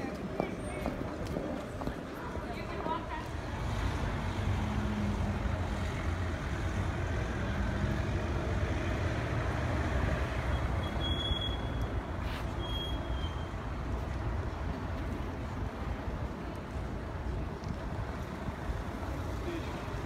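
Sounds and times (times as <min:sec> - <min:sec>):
city street rumble: 0:00.0 - 0:20.0.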